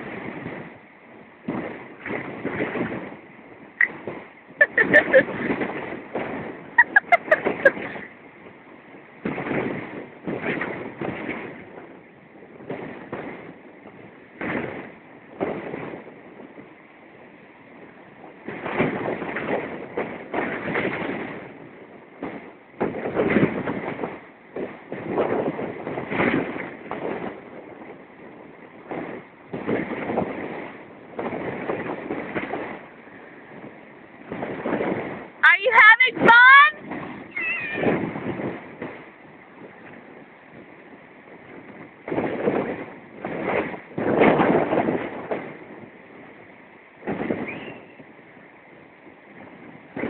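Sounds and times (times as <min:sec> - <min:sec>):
heavy surf breaking: 0:00.0 - 0:50.0
wind buffeting microphone: 0:00.0 - 0:50.0.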